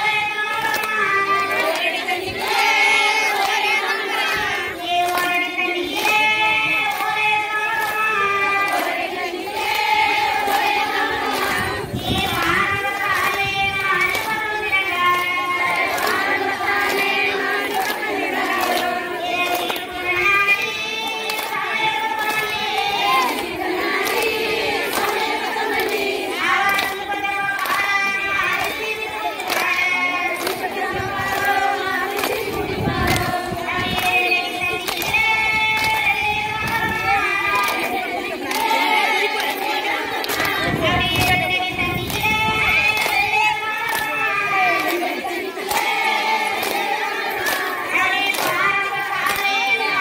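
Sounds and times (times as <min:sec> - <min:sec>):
handclaps keeping time: 0:00.0 - 0:50.0
women singing together: 0:00.0 - 0:50.0.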